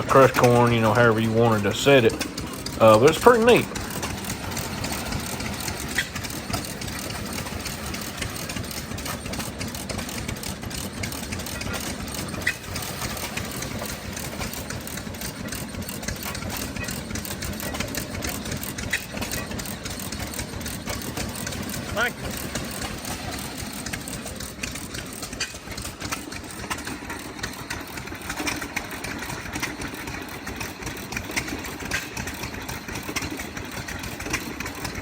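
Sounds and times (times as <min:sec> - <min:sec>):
corn sheller engine running: 0:00.0 - 0:35.0.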